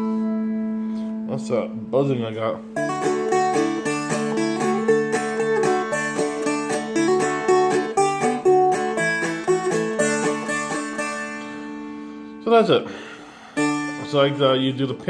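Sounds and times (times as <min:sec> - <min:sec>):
dulcimer plucked and strummed: 0:00.0 - 0:15.0.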